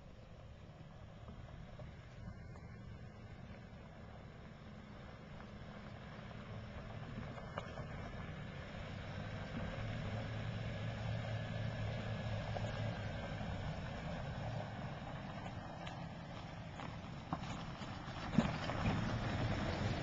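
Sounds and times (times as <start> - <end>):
pickup truck engine running: 0.0 - 20.0.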